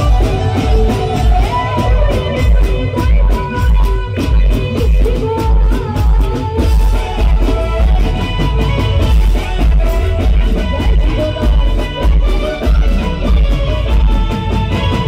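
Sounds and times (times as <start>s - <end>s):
heavy steady drum beat: 0.0s - 15.0s.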